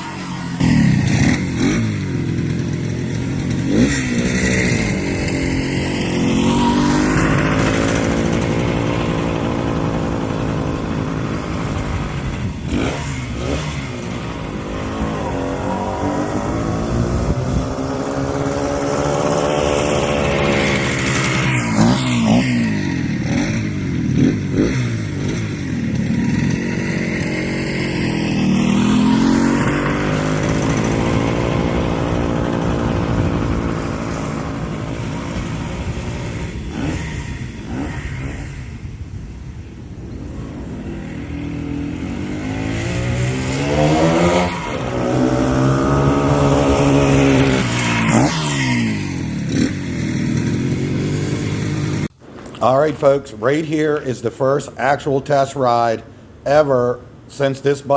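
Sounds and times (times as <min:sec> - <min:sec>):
motorcycle engine running: 0:00.0 - 0:52.1.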